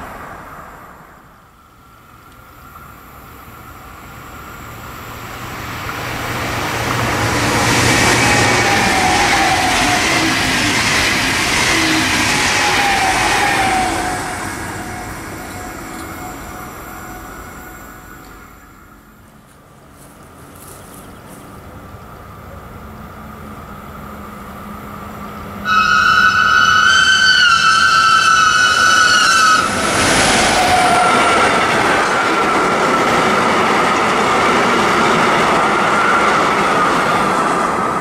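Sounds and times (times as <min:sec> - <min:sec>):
train wheels rushing on rails: 0:00.0 - 0:38.0
train whine: 0:00.0 - 0:38.0.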